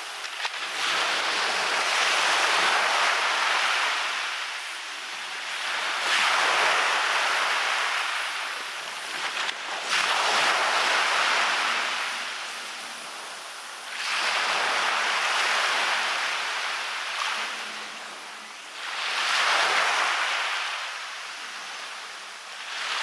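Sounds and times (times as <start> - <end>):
waves breaking on a beach: 0.0 - 23.0.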